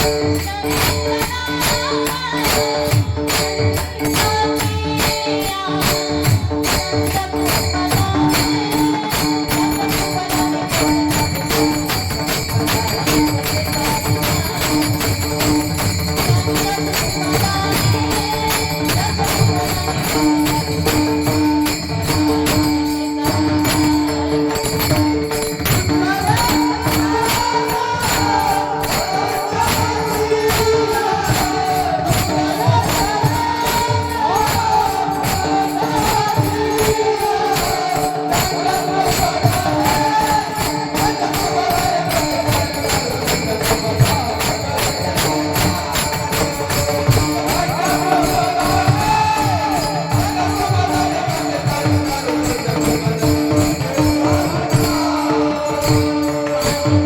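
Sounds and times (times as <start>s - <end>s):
jingling metal percussion: 0.0s - 57.0s.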